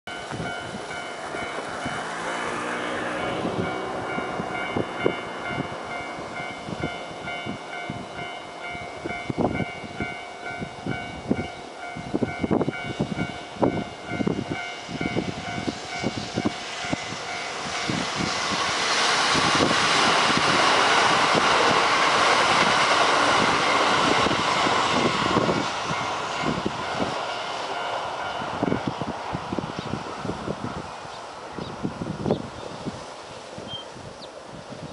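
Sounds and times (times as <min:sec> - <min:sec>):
train passing with rushing rumble: 0:00.1 - 0:34.9.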